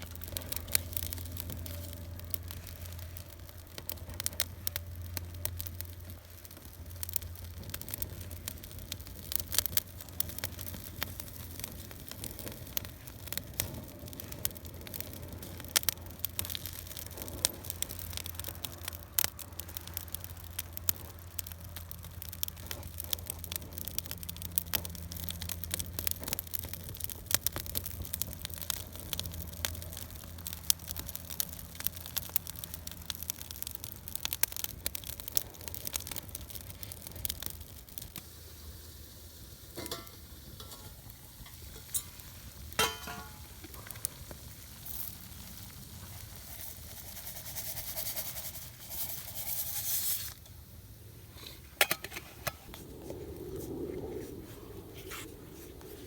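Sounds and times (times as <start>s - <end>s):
meat sizzling on a grill: 0.0s - 50.4s
fire crackling: 0.0s - 56.0s.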